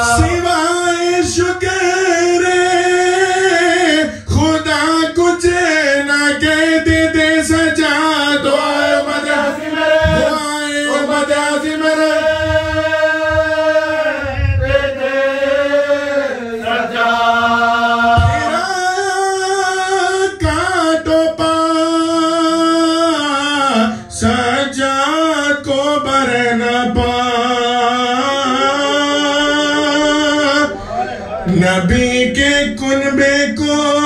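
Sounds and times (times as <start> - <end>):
man chanting into a microphone: 0.0 - 16.7, 17.5 - 34.0.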